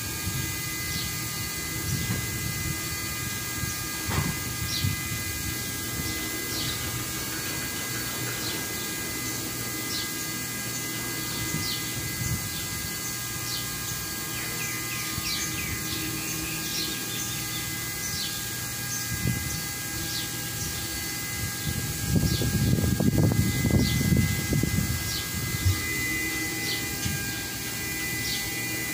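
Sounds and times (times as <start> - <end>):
mechanical hum with whining tones: 0.0 - 28.9
birds chirping: 0.5 - 28.9.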